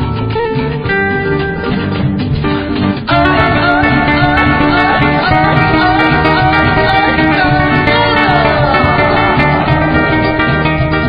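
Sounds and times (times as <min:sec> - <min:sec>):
latin band music with guitars: 0:00.0 - 0:11.0.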